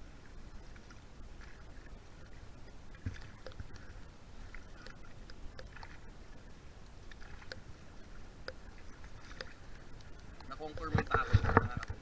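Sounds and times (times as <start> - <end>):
faint clicks: 0.7 - 6.1, 6.8 - 7.8, 8.4 - 12.0.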